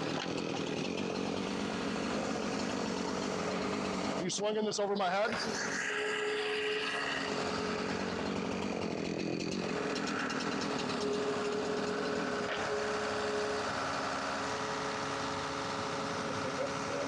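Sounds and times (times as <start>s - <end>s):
chainsaw cutting wood: 0.0s - 4.3s, 5.2s - 17.0s.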